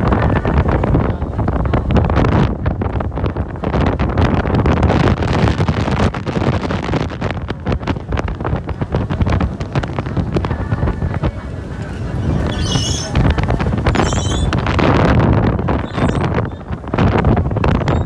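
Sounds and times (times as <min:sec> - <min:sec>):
heavy wind buffeting microphone: 0:00.0 - 0:18.0.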